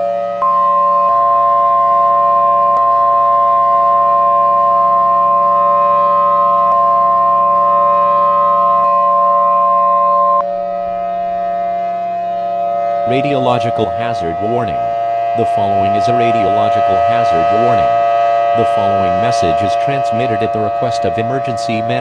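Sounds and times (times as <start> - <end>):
steady alarm tone: 0.0 - 22.0
sustained low chord: 0.0 - 22.0.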